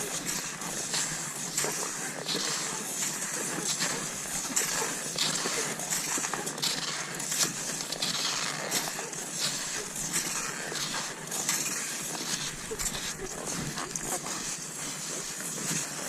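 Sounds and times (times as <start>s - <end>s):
skis sliding and crunching over snow: 0.0s - 16.0s.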